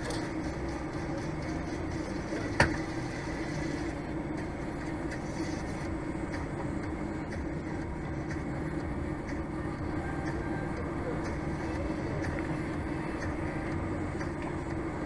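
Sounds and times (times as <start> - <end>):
truck idling: 0.0 - 15.0.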